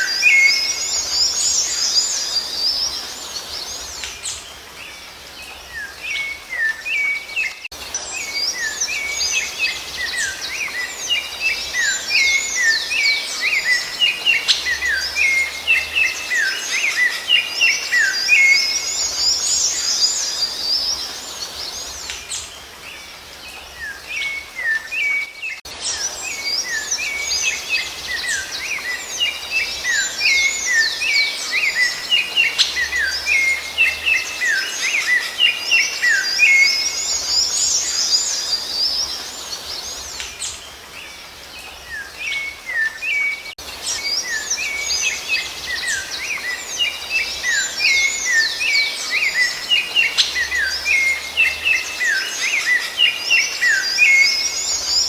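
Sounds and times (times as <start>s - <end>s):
songbird twittering: 0.0s - 55.0s.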